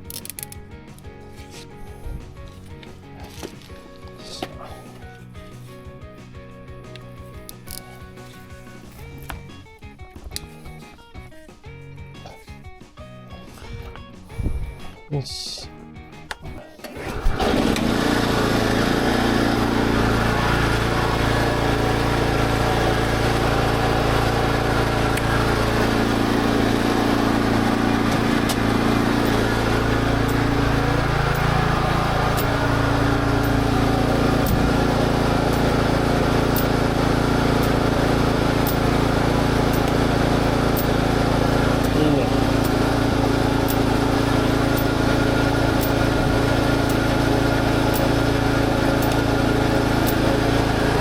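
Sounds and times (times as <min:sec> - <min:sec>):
small engine starting and running: 0:00.0 - 0:15.0, 0:16.3 - 0:51.0.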